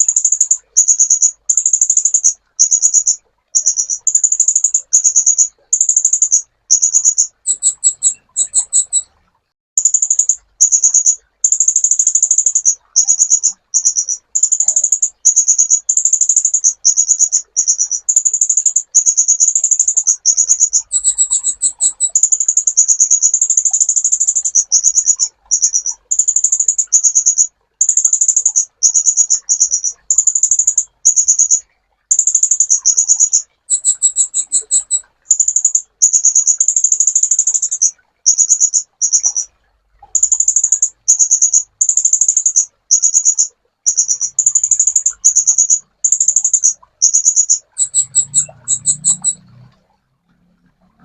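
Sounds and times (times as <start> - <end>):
sunbird high trilled chattering: 0.0 - 9.2, 9.8 - 39.5, 40.1 - 49.5.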